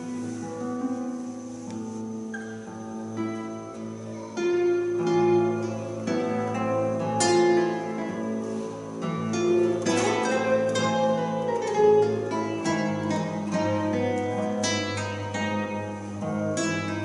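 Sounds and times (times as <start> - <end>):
plucked classical guitars: 0.0 - 17.0.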